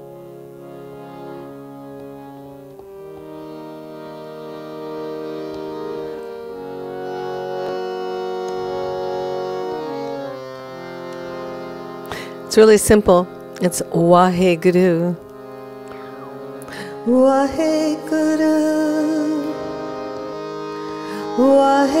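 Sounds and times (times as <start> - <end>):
harmonium playing sustained chords: 0.0 - 22.0.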